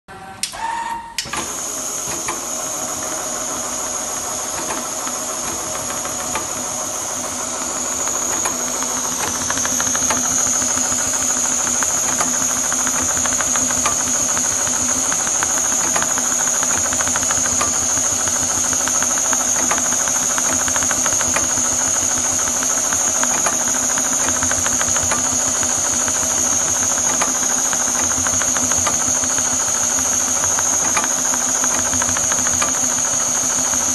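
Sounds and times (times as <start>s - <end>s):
sewing machine stitching leather: 0.4s - 33.9s.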